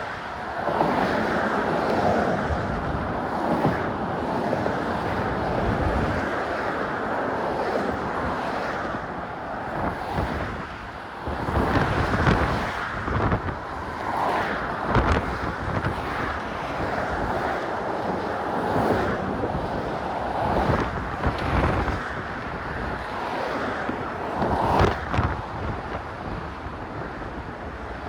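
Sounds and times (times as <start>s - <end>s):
steady traffic rush: 0.0s - 28.0s
wind buffeting microphone: 0.0s - 28.0s.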